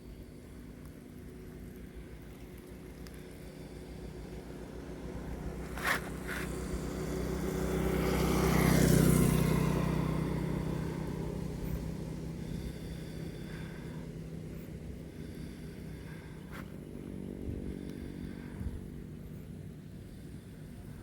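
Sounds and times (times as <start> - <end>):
vehicle driving past: 4.0 - 21.0.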